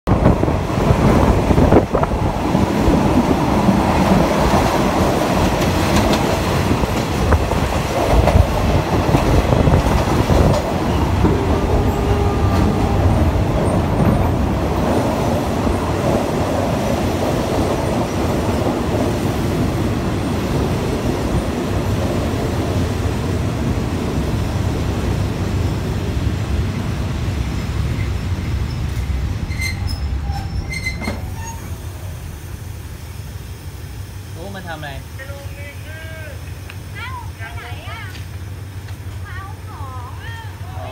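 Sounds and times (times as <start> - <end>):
train wheels rumbling on track: 0.1 - 40.9.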